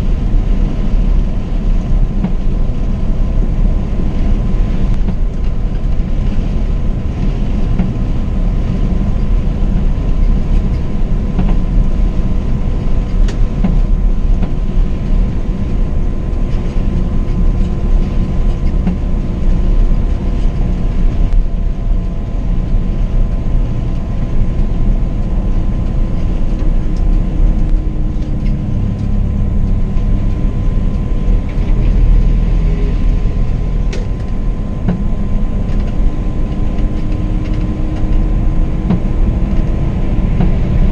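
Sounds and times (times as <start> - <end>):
coach engine and road rumble: 0.0 - 40.9.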